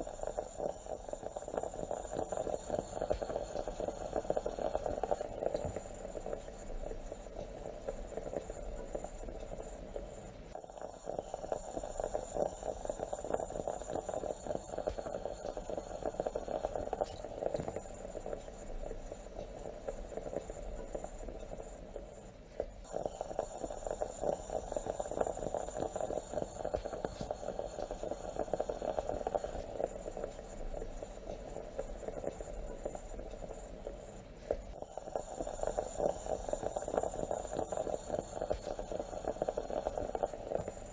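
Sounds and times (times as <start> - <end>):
moka pot gurgling and sputtering: 0.0 - 40.9.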